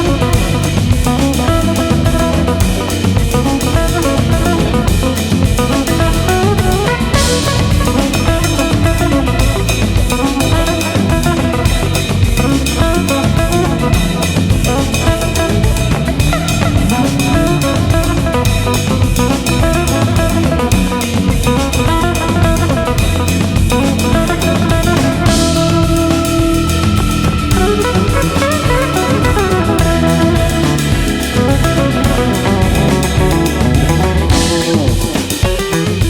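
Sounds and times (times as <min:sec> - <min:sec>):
band music with drums and guitar: 0:00.0 - 0:36.0.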